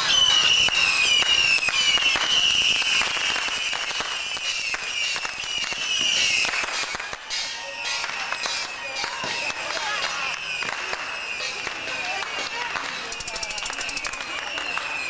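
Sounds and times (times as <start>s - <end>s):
firecrackers popping: 0.0s - 15.0s.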